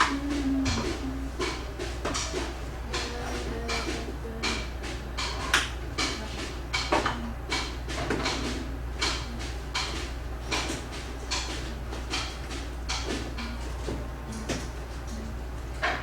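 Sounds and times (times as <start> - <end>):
percussion steady beat: 0.0 - 16.0.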